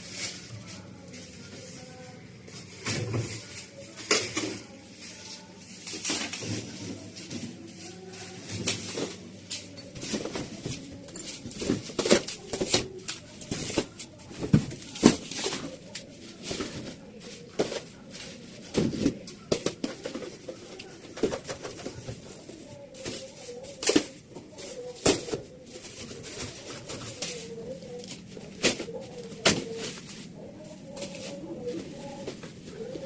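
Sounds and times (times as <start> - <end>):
household items clattering: 0.0 - 33.0.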